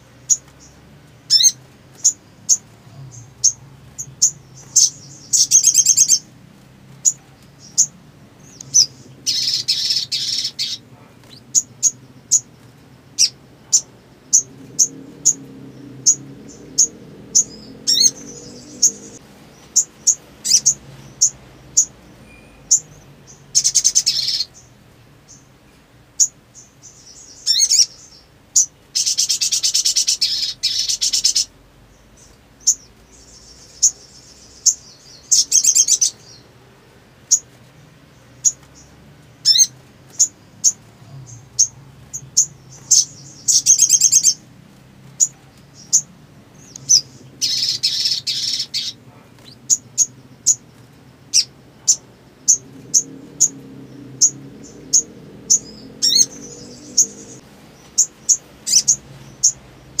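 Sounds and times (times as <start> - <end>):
songbird chirping and trilling: 0.0 - 60.0.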